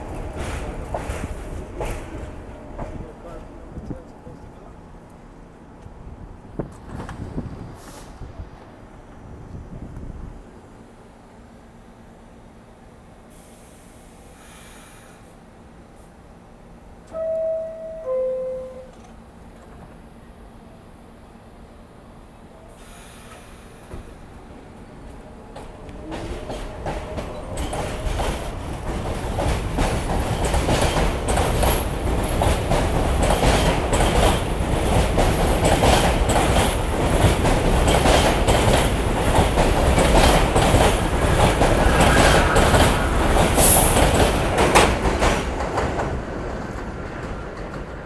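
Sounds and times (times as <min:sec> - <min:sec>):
subway train wheels clattering: 0:00.0 - 0:48.0.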